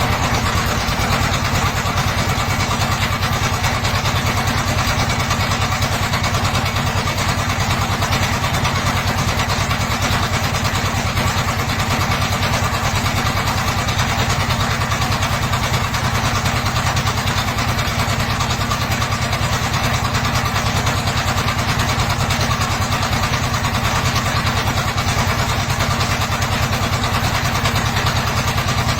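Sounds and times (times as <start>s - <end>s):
diesel engine running steadily: 0.0s - 28.9s.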